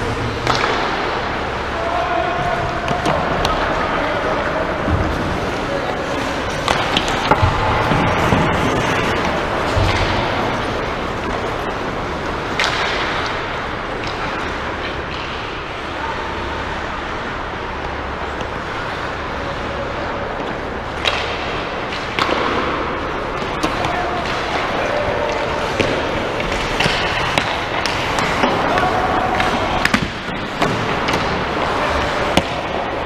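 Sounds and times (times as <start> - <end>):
hockey sticks and puck cracking: 0.0 - 1.4, 2.5 - 15.9, 20.0 - 33.0
ice rink ambience: 0.0 - 33.0.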